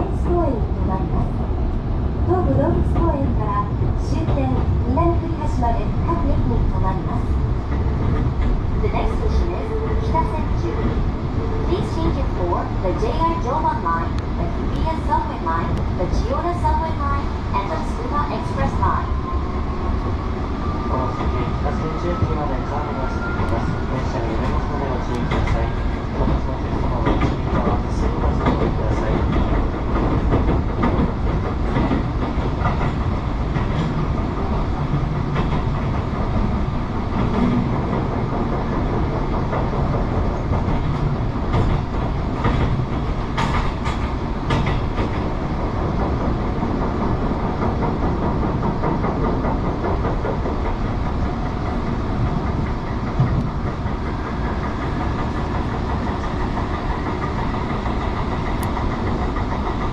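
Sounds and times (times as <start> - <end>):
rail joints clacking: 0.0 - 59.9
train wheels rumbling on rail: 0.0 - 59.9.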